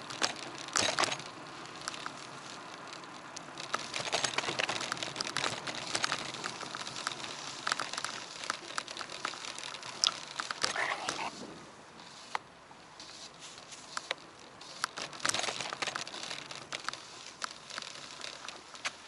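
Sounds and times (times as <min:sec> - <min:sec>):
crackling and clicking: 0:00.0 - 0:11.3, 0:12.0 - 0:19.0
bicycle rattles: 0:00.0 - 0:19.0
bicycle road noise: 0:00.0 - 0:19.0.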